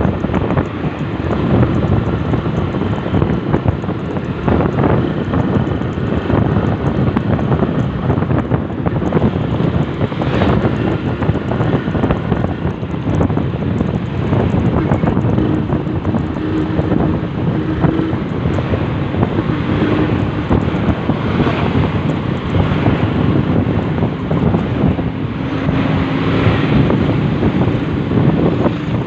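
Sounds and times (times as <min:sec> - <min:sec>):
vehicle road noise: 0:00.0 - 0:29.0
wind buffeting microphone: 0:00.0 - 0:29.0.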